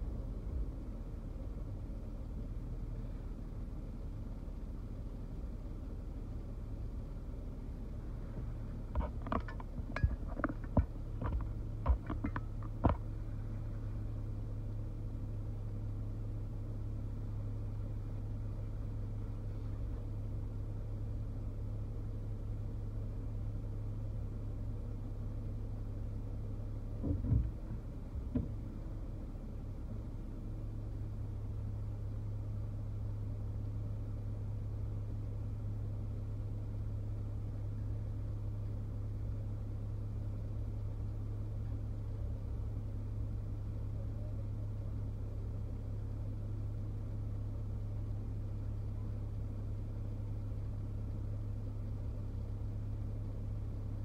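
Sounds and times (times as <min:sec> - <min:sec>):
car cabin hum: 0:00.0 - 0:54.0.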